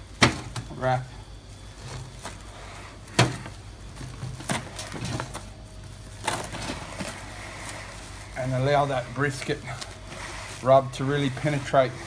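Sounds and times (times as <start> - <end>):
plastic cling wrap crinkling: 0.0 - 12.0.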